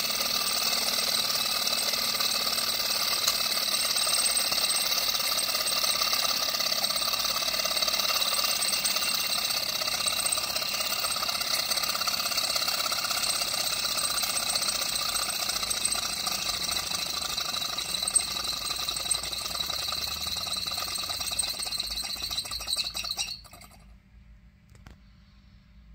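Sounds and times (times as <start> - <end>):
stirling engine mechanical rattle: 0.0 - 23.9.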